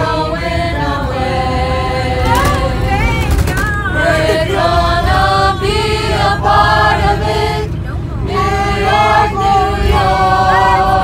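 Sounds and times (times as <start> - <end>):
group singing in harmony: 0.0 - 11.0
steady low rumble: 0.0 - 11.0.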